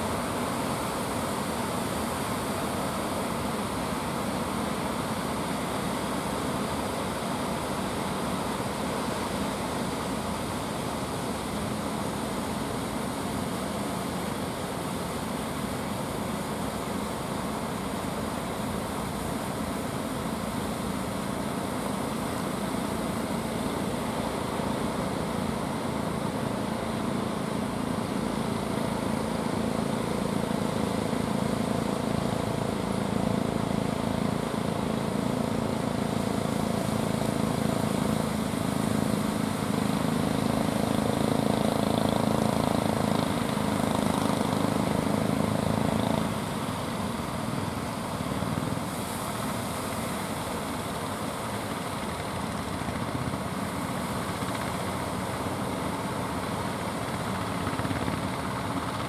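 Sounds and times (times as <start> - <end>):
boat engines droning: 0.0 - 59.0.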